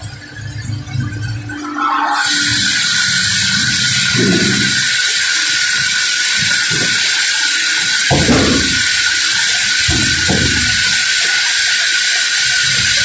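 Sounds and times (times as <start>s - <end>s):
machinery steady hiss: 2.2s - 13.0s.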